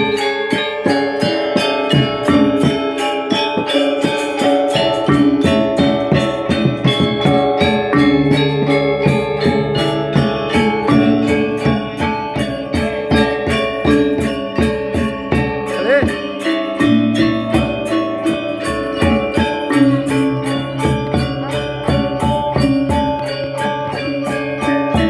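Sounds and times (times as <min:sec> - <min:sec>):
gamelan ensemble playing: 0:00.0 - 0:25.0.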